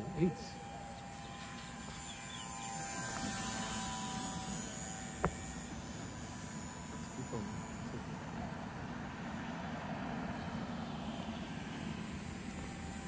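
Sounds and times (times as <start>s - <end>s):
thin buzzing propeller whine: 0.0s - 13.0s.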